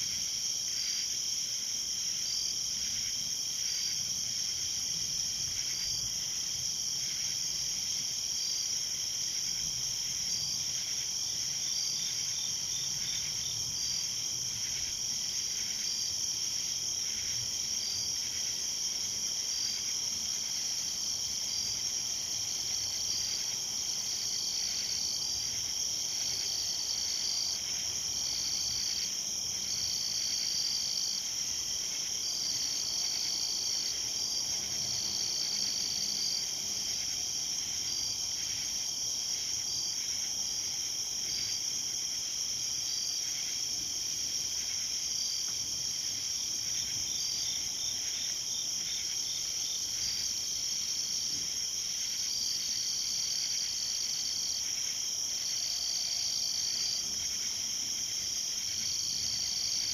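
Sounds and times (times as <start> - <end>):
crickets trilling: 2.1 - 59.9.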